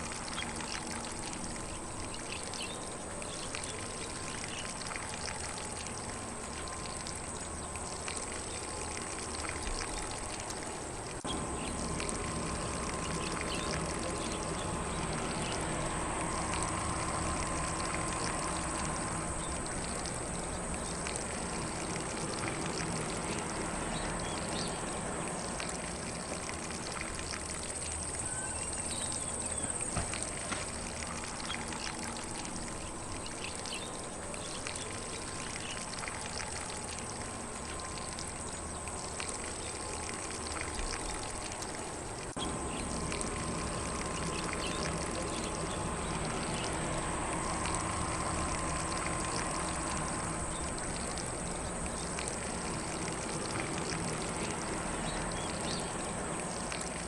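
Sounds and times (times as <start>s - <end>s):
sprinkler spraying water: 0.0s - 57.0s
faint birdsong: 0.2s - 47.8s, 48.4s - 56.9s.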